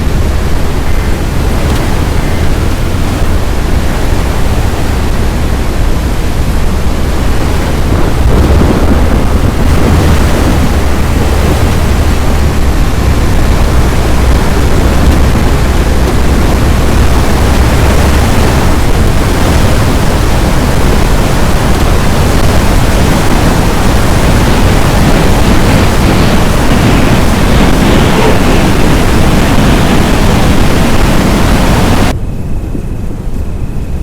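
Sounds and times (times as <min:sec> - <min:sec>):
storm wind and rain rushing: 0:00.0 - 0:34.0.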